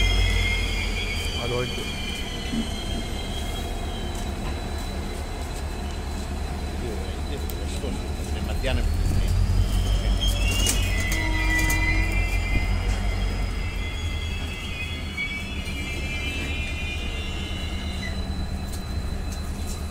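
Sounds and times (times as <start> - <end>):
high-pitched metallic brake squeals: 0.0 - 19.9
train coaches rumbling: 0.0 - 19.9.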